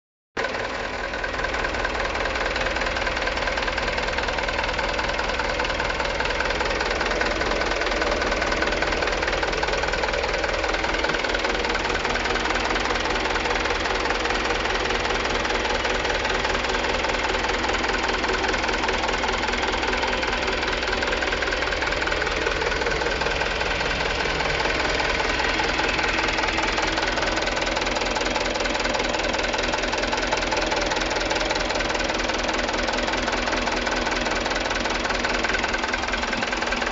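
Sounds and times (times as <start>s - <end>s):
diesel truck engine idling: 0.4s - 36.9s.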